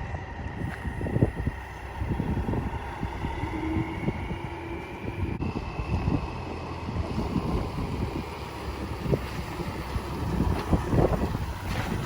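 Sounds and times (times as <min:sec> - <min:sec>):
wind buffeting microphone: 0:00.0 - 0:12.0
faint steady tones: 0:00.5 - 0:12.0.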